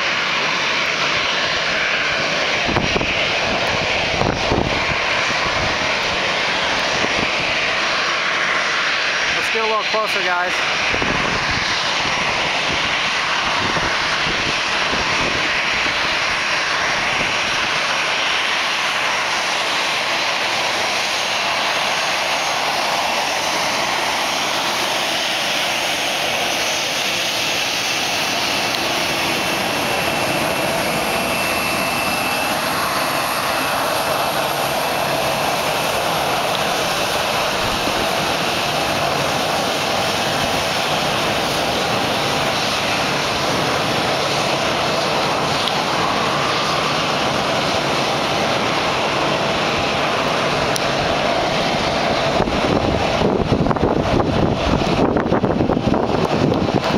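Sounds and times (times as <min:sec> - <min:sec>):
jet engine noise: 0:00.0 - 0:56.9.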